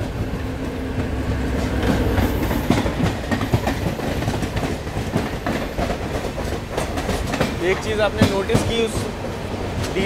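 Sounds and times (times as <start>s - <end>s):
train rumbling on track: 0.0s - 10.0s
wheels clacking over rail joints: 0.0s - 10.0s.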